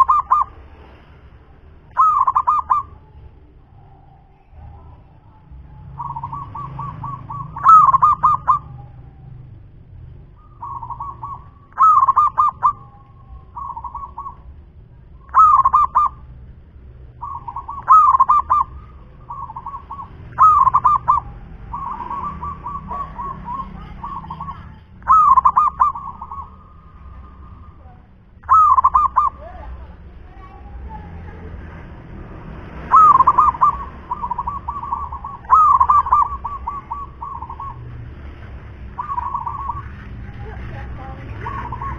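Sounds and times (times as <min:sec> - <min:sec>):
dove cooing: 0:00.0 - 0:00.6, 0:01.4 - 0:16.4, 0:17.1 - 0:31.5, 0:32.7 - 0:41.9.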